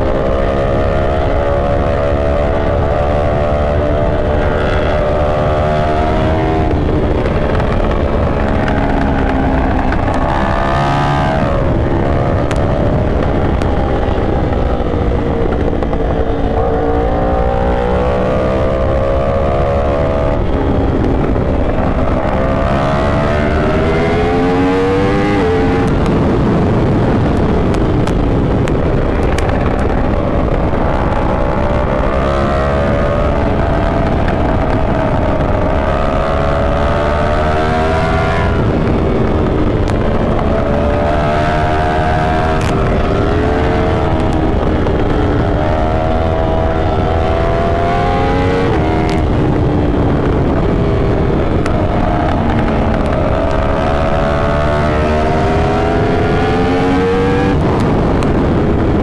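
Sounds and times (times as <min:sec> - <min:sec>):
low rushing noise: 0:00.0 - 0:59.0
motorcycle engine revving: 0:00.0 - 0:59.0.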